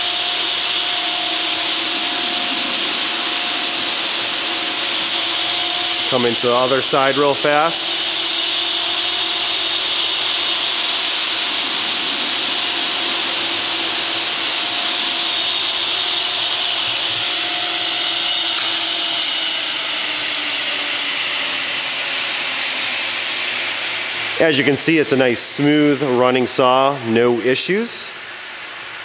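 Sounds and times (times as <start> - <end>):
saw blades whirring: 0.0 - 28.6.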